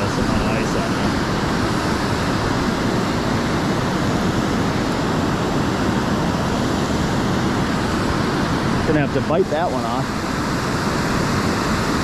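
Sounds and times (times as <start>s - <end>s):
fast-flowing river water rushing: 0.0s - 12.0s.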